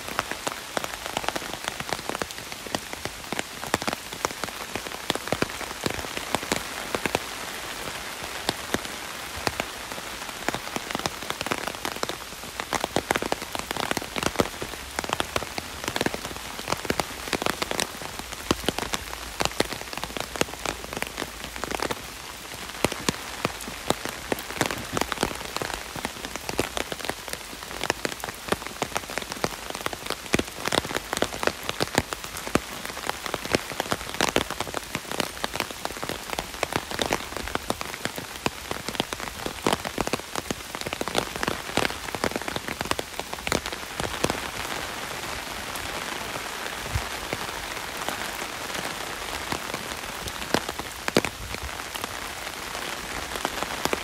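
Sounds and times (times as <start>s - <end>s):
heavy rain on an umbrella: 0.0s - 54.0s.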